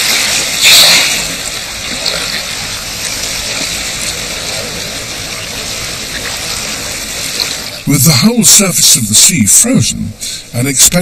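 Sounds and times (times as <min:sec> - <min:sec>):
rush of moving water: 0:00.0 - 0:11.0.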